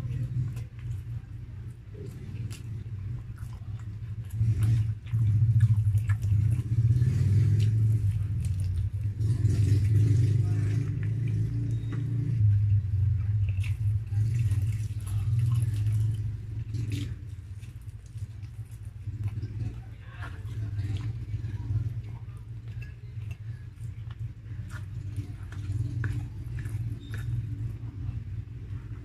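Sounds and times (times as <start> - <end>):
chewing food: 0.0 - 29.0
low steady rumble: 0.0 - 29.0.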